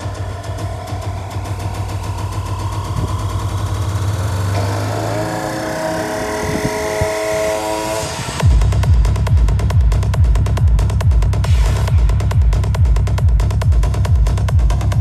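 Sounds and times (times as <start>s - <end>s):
low bass drone: 0.0s - 15.0s.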